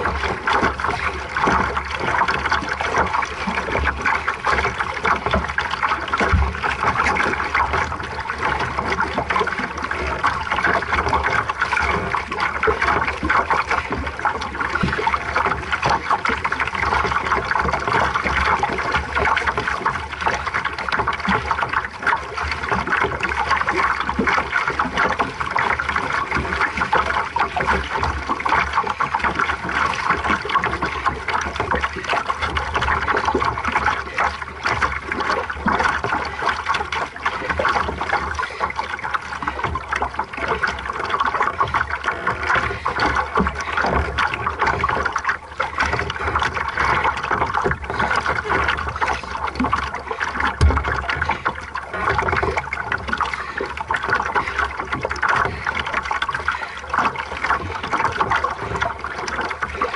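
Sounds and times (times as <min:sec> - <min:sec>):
water splashing along boat hull: 0:00.0 - 0:59.9.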